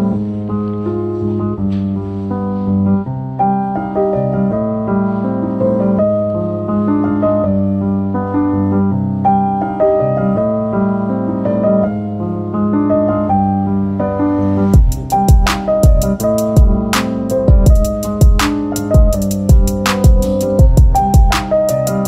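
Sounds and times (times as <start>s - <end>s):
keyboard melody: 0.0s - 22.0s.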